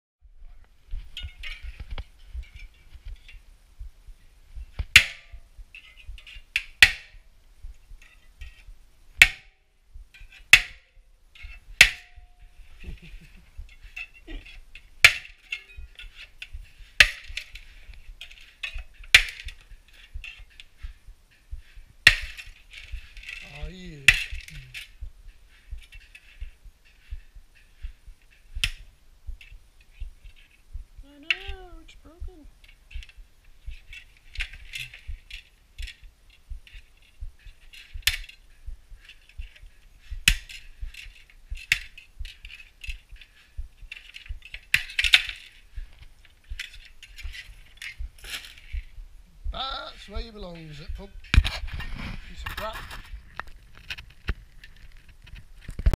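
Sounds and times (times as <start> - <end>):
scraping and rattling: 0.4 - 8.8, 10.1 - 31.7, 32.6 - 49.0, 49.6 - 55.9.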